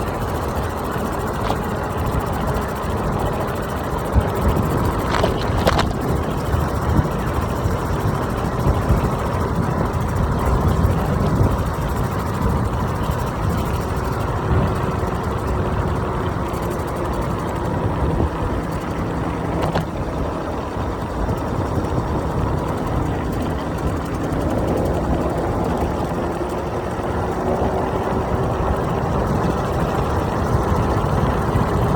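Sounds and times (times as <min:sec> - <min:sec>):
wind and road noise rumble: 0:00.0 - 0:31.9.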